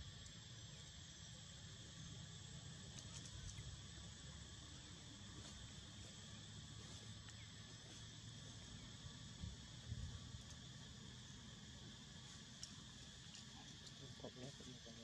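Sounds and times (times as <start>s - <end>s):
insects trilling: 0.0s - 15.0s
low background rumble: 0.0s - 15.0s.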